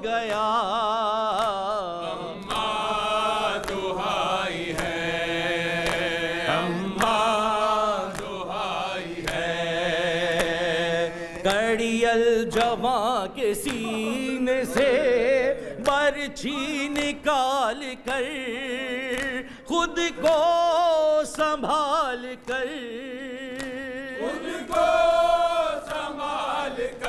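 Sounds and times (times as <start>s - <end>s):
person singing with vibrato: 0.0s - 27.0s
rhythmic chest-beating: 0.0s - 27.0s.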